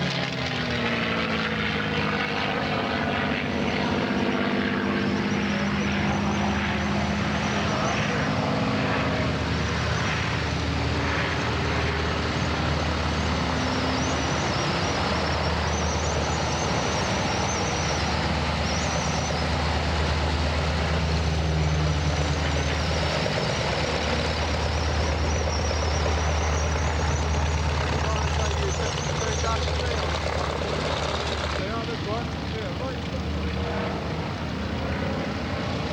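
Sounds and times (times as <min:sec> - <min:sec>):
propeller aircraft engine drone: 0:00.0 - 0:35.9.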